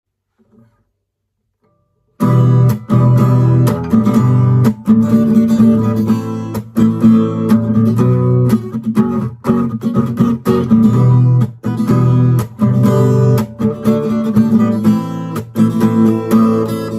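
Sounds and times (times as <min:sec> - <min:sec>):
acoustic guitar chords strummed: 0:01.6 - 0:16.9.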